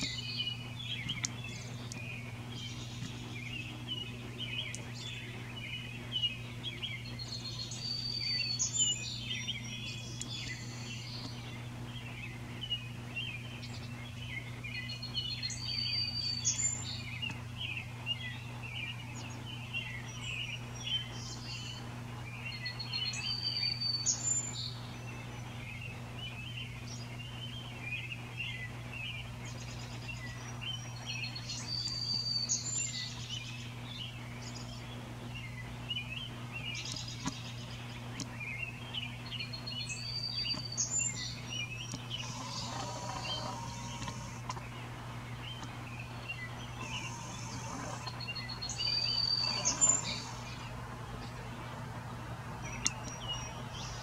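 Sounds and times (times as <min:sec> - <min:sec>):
birds chirping chatter: 0:00.0 - 0:54.0
steady low hum: 0:00.0 - 0:54.0.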